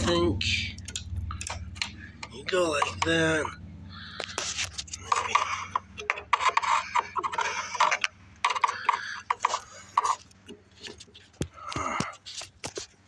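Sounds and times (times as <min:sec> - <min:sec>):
hand tools clicking on metal: 0:00.0 - 0:12.8.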